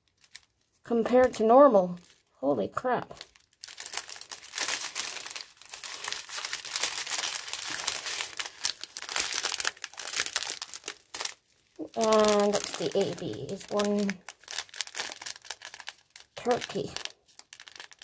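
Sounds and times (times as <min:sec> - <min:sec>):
plastic bags crinkling: 0:00.0 - 0:02.4, 0:03.0 - 0:18.0.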